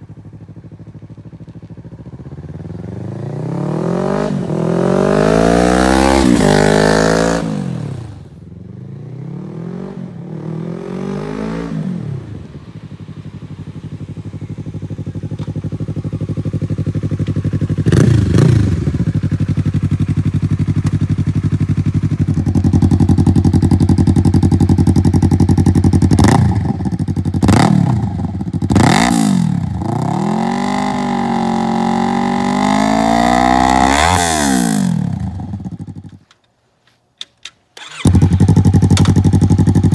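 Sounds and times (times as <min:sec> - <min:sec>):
motorcycle engine revving: 0:00.3 - 0:36.2, 0:37.8 - 0:39.9.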